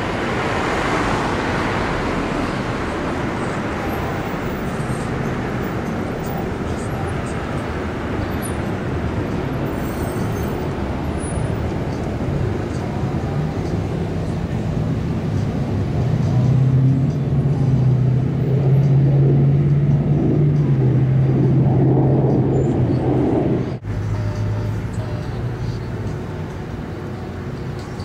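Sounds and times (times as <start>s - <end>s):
low motor rumble: 0.0s - 27.7s
low engine hum: 0.0s - 28.0s.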